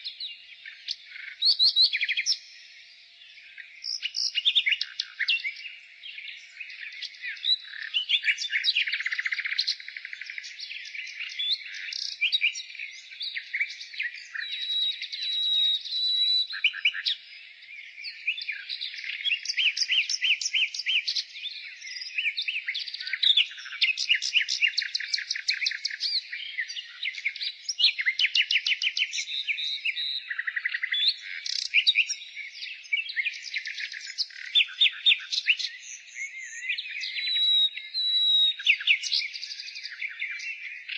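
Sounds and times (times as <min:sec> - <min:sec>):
nightingale singing trills: 0:00.0 - 0:40.9.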